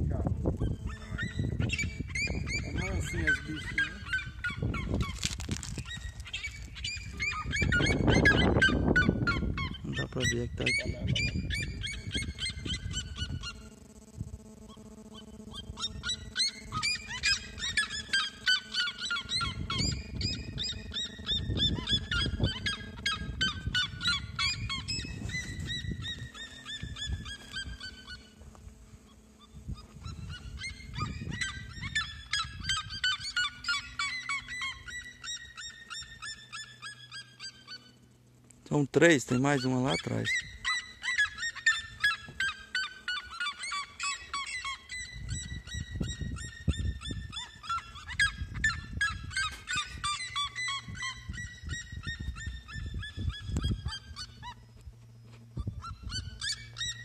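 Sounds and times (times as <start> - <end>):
birds calling in falling runs: 0.4 - 57.0.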